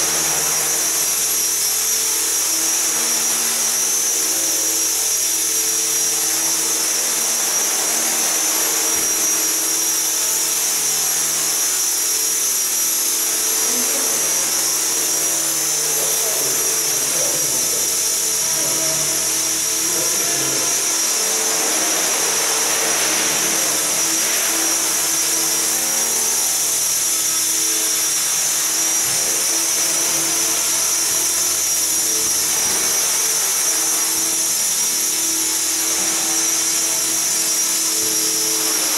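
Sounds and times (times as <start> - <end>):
helicopter motor whine: 0.0 - 38.9
rotor whirring: 0.0 - 38.9.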